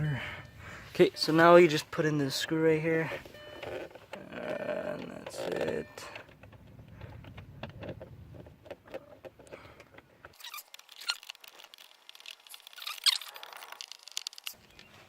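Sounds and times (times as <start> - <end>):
rustling of handled things: 0.3 - 15.0.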